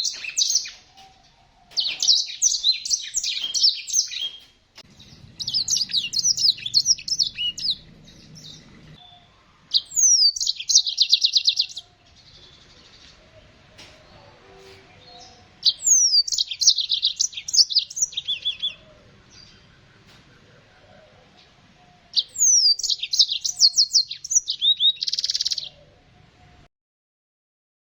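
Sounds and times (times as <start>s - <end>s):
small songbirds twittering: 0.0s - 26.7s.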